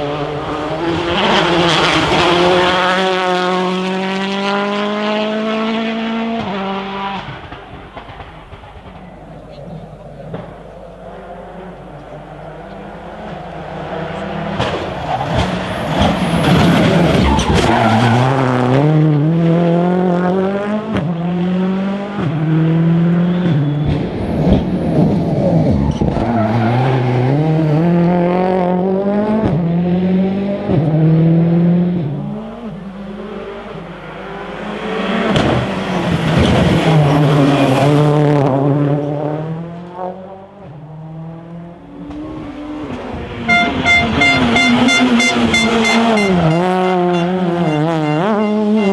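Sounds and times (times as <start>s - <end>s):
rally car engine accelerating: 0.0s - 48.9s.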